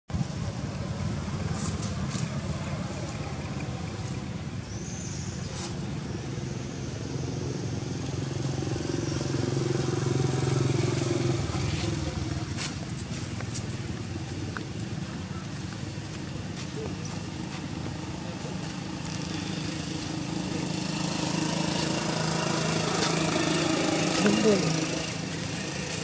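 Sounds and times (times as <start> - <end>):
motor engine humming: 0.1 - 26.0.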